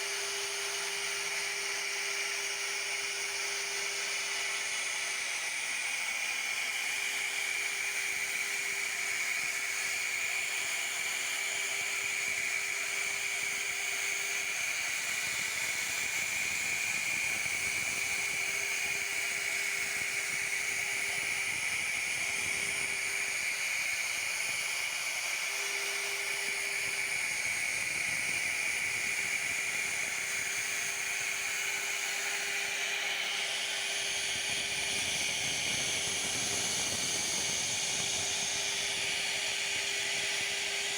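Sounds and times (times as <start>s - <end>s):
router spindle carving wood: 0.0s - 40.9s.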